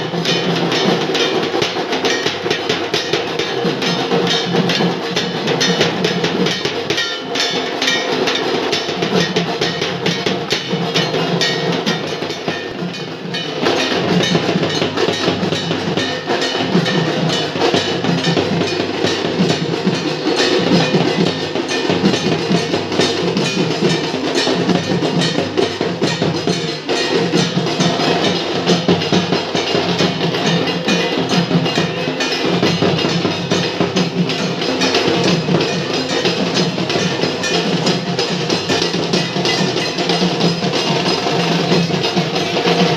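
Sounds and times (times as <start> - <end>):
percussion-heavy music: 0.0 - 42.9.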